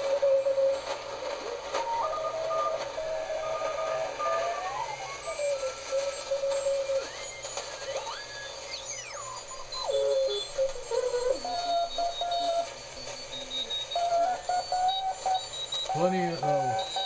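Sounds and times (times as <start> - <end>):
heterodyne whistles sliding in pitch: 0.0 - 17.0
morse code tones: 0.1 - 17.0.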